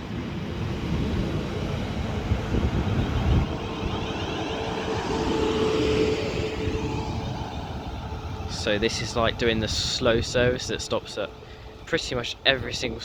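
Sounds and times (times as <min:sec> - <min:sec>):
electric train hum: 0:00.0 - 0:13.0.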